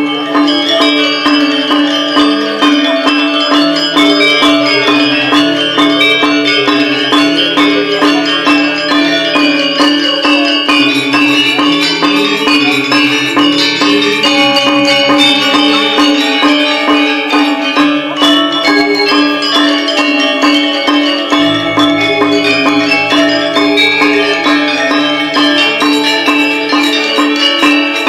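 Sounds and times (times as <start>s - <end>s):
gamelan ensemble playing: 0.0s - 28.0s.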